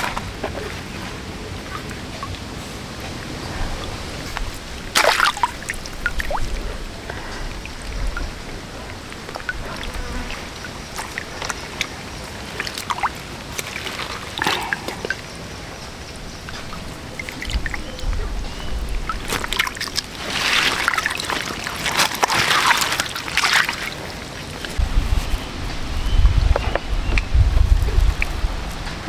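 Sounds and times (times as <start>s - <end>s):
water drips and splashes: 0.0s - 29.0s
water sloshing and trickling: 0.0s - 29.0s.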